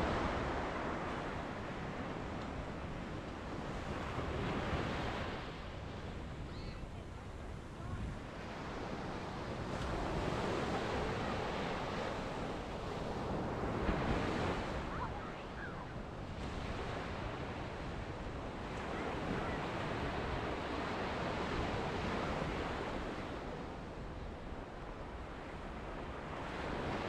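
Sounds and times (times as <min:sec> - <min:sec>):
waves breaking on beach: 0:00.0 - 0:27.0.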